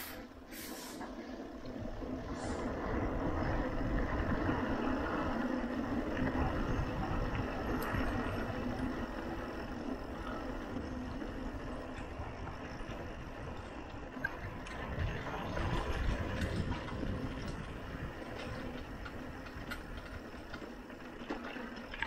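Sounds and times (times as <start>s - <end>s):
bike tyres rumbling on concrete: 1.0s - 22.0s
wind on microphone: 1.6s - 20.6s.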